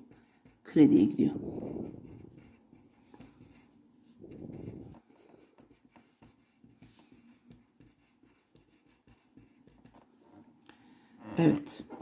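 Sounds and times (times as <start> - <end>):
pen scratching on paper: 0.0 - 10.4.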